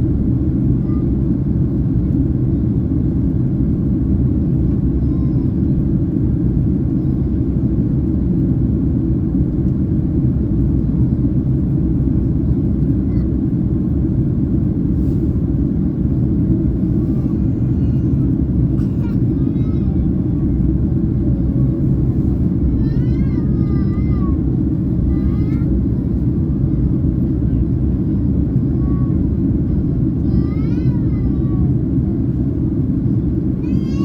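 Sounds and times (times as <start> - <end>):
airliner cabin engine rumble: 0.0 - 34.0.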